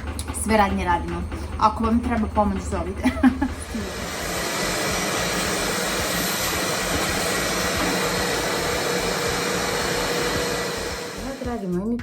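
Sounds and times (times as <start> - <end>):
appliance motor and fan whirring: 0.0 - 12.0.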